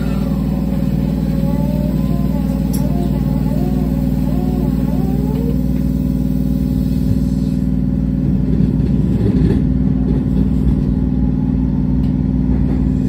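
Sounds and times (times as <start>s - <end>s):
train car hum: 0.0s - 13.0s
wheels rumbling on rails: 0.0s - 13.0s.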